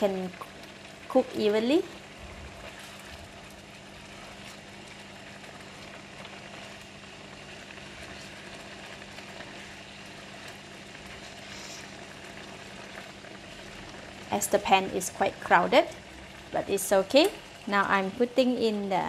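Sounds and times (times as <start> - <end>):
sauce sizzling in a wok: 0.0 - 19.0.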